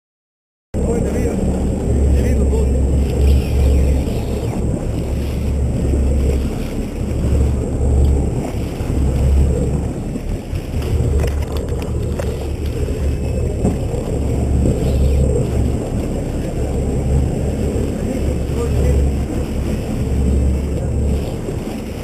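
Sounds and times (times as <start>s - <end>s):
boat engine rumble: 0.8s - 22.0s
water rushing along hull: 0.8s - 22.0s
wind buffeting microphone: 0.8s - 22.0s.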